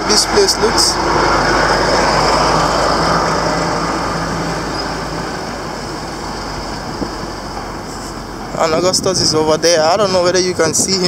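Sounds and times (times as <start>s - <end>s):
vehicle passing by: 0.0s - 8.9s.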